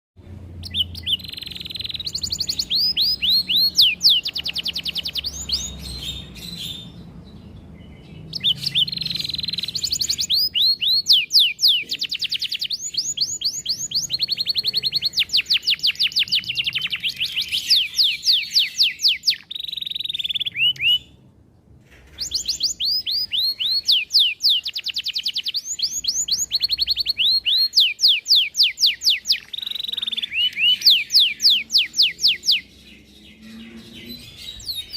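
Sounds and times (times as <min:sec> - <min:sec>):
canary singing trills: 0:00.5 - 0:21.3, 0:22.1 - 0:34.9.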